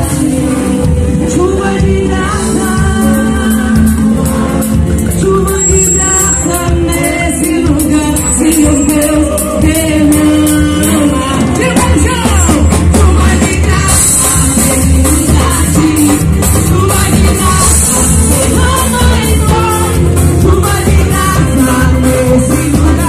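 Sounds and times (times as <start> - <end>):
gospel band playing: 0.0 - 23.0
people singing: 0.0 - 23.0.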